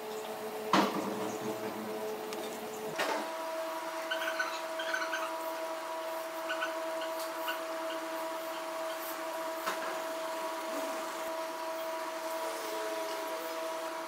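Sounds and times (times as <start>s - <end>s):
machine hum with hiss: 0.0s - 14.0s.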